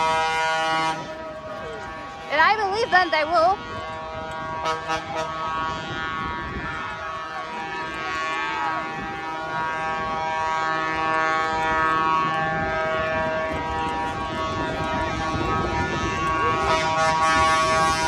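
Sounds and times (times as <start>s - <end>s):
street noise: 0.0s - 18.0s
truck air horns blowing: 0.0s - 18.0s.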